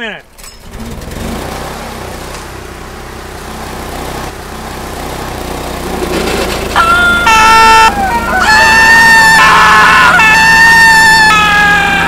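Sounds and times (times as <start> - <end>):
small engine rumbling: 0.2 - 12.0.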